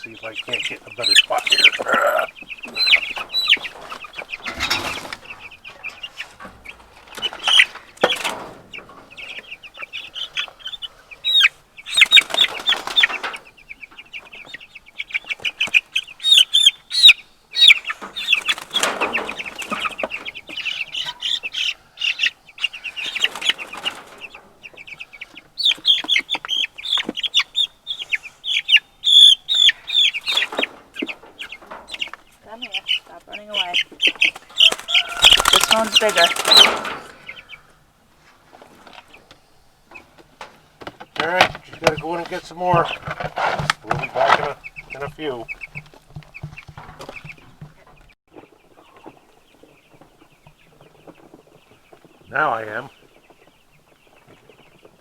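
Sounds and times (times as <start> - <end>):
chickens chirping: 0.0 - 55.0
scuffling and wing flapping: 0.0 - 55.0.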